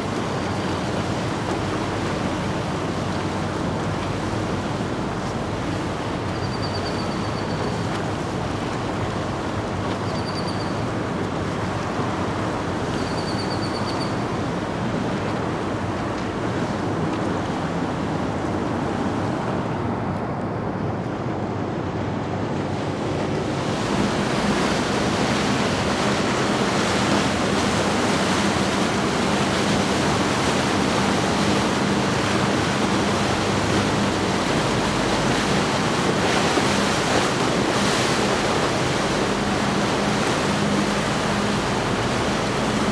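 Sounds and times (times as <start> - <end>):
boat engine hum: 0.0 - 42.9
churning boat wakes: 0.0 - 42.9.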